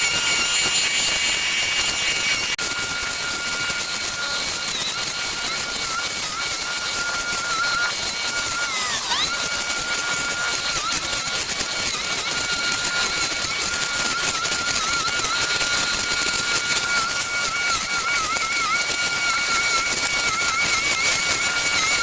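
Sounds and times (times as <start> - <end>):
machine whining: 0.0 - 22.0.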